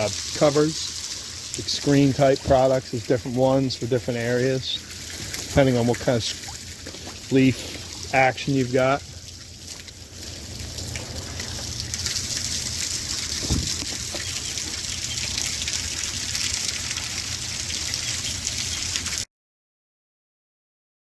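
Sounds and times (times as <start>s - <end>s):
rainwater splashing off gutter: 0.0s - 19.3s.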